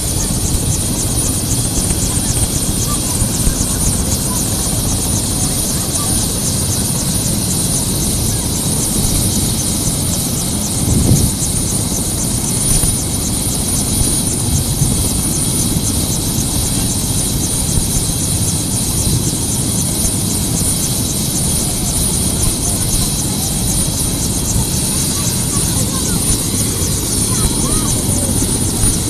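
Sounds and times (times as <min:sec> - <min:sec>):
helicopter rotor beat: 0:00.0 - 0:29.0
helicopter turbine whine: 0:00.0 - 0:29.0.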